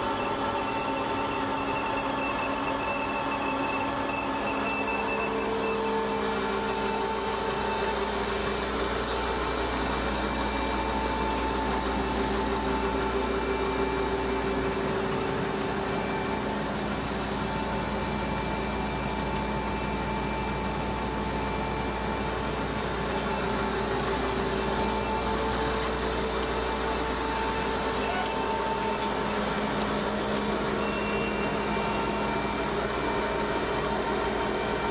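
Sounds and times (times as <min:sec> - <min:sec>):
auger mechanical hum and whine: 0:00.0 - 0:34.9.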